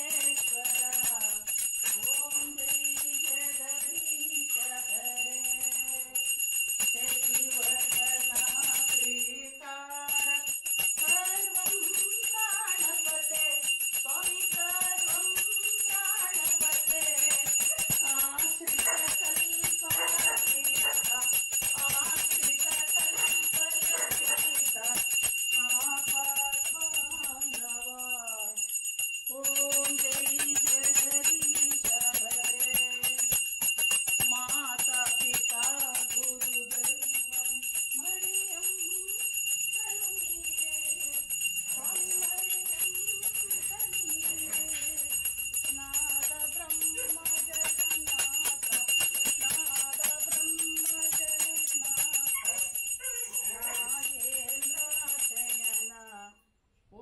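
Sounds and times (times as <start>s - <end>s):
person singing devotional melody: 0.0s - 56.3s
hand bell ringing: 0.0s - 56.4s.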